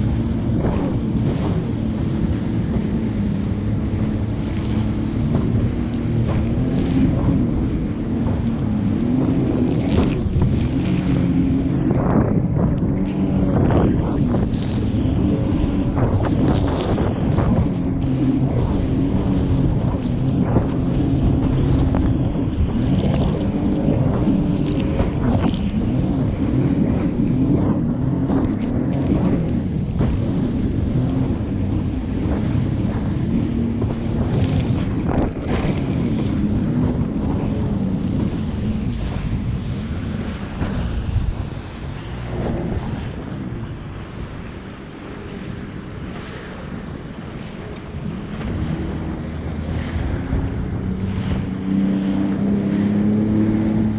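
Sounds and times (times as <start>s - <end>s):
jet ski engine running: 0.0s - 53.9s
water splashing: 0.0s - 53.9s
wind buffeting microphone: 0.0s - 53.9s.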